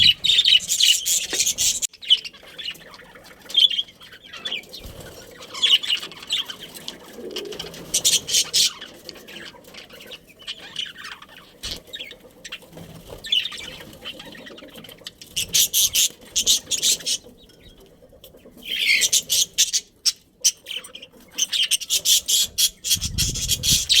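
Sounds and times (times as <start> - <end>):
budgerigars chirping: 0.0 - 6.9, 7.9 - 17.9, 18.6 - 24.0.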